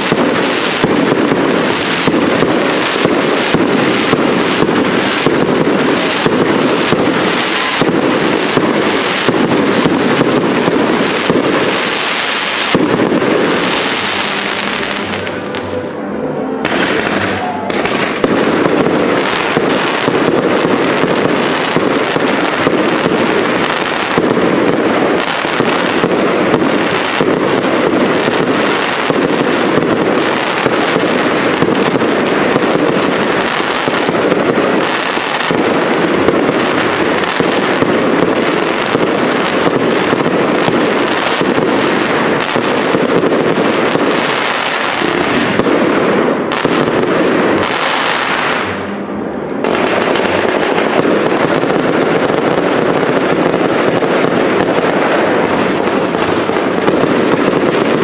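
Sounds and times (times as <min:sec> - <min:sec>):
fireworks bursts and crackling: 0:00.0 - 0:58.0.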